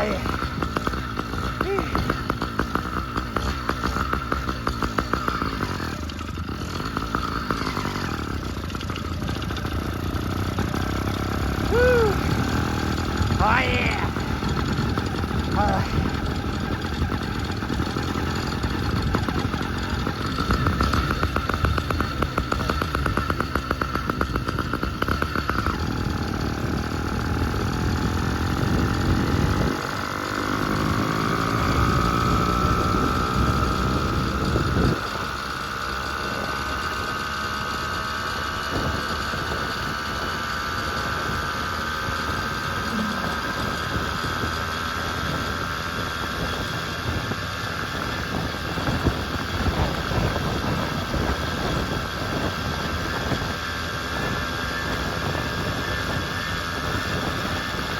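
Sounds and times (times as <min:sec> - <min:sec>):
two-stroke engine running: 0:00.0 - 0:57.9.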